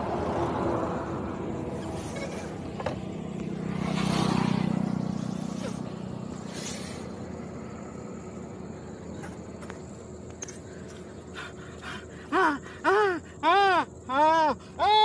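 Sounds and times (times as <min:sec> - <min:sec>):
vehicle engine humming: 0:00.0 - 0:14.1.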